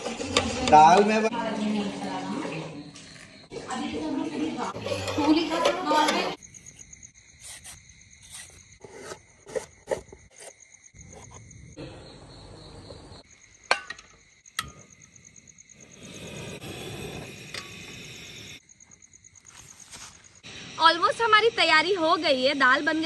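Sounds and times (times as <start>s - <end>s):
camping stove hissing: 0.0s - 2.4s, 3.1s - 10.5s, 13.2s - 18.7s, 19.6s - 23.0s
crickets chirping: 0.1s - 23.0s.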